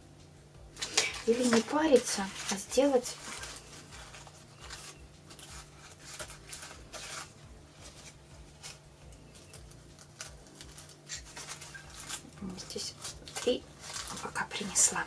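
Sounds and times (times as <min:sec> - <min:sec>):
artificial flowers rustling: 0:00.0 - 0:15.0
faint steady hum: 0:00.0 - 0:15.0.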